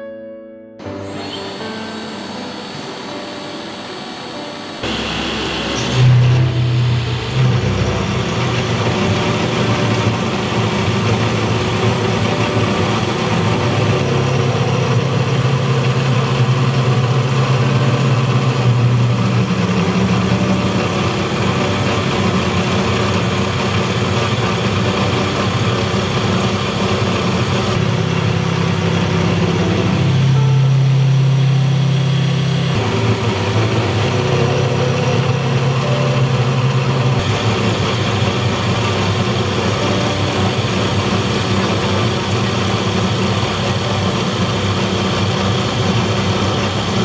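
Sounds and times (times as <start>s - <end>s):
lathe machine hum: 1.0s - 47.0s
metal cutting and coolant spray: 4.8s - 47.0s.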